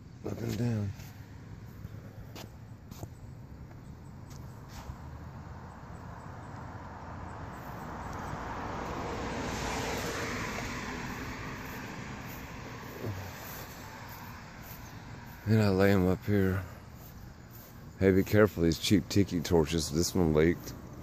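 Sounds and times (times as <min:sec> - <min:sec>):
distant vehicle passing: 0:00.0 - 0:21.0.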